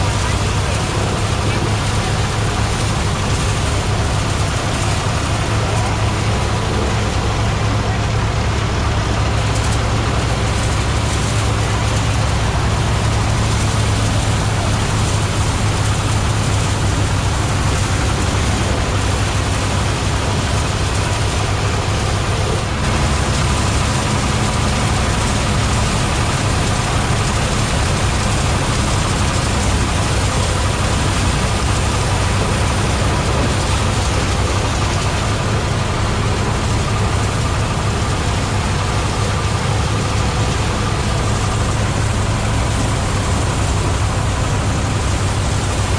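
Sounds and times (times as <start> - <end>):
threshing machine engine droning: 0.0 - 45.9.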